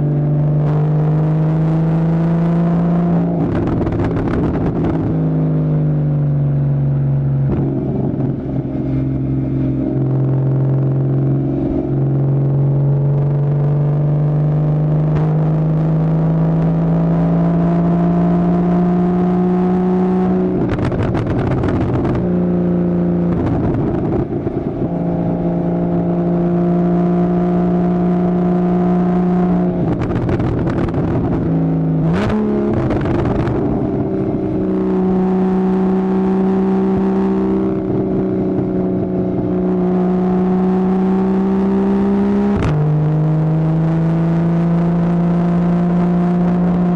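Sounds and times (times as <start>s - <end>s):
sports car engine revving: 0.0s - 46.9s.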